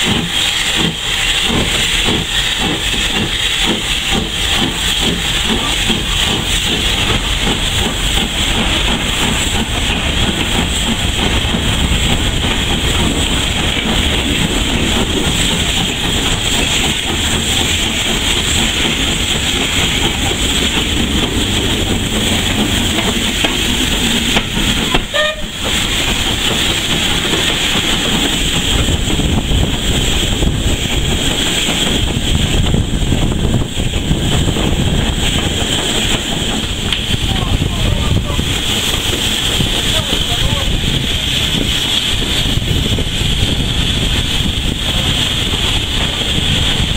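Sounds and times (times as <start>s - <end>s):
steam hissing: 0.0s - 46.9s
steam train running: 0.0s - 46.9s.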